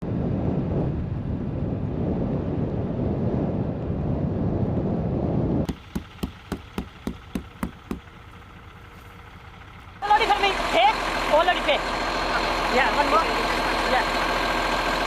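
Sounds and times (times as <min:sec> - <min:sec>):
wind and road noise rumble: 0:00.0 - 0:15.0.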